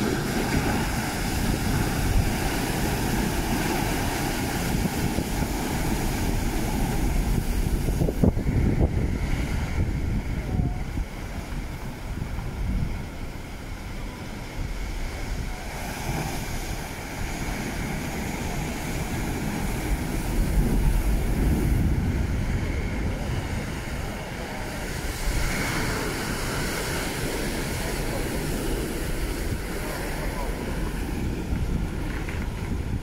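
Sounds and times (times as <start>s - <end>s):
waves breaking on rocky shore: 0.0s - 33.0s
wind rumble on microphone: 0.0s - 33.0s.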